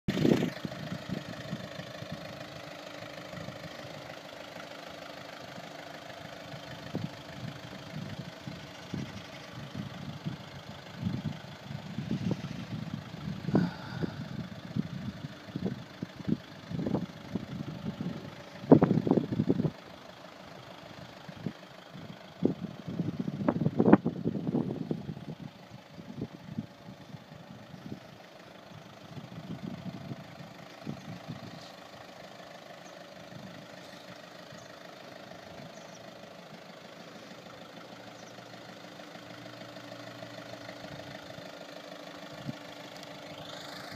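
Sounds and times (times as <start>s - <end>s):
van engine idling: 0.1s - 43.9s.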